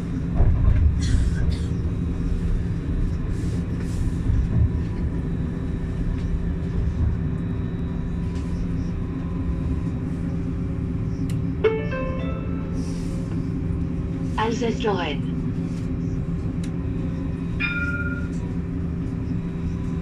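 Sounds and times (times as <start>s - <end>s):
tram rumbling: 0.0s - 20.0s.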